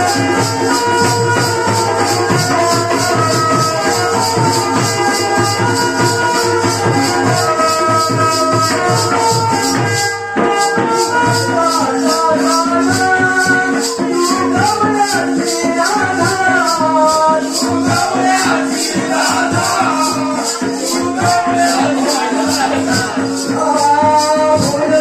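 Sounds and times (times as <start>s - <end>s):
high rattling beat: 0.0s - 25.0s
man singing: 0.0s - 25.0s.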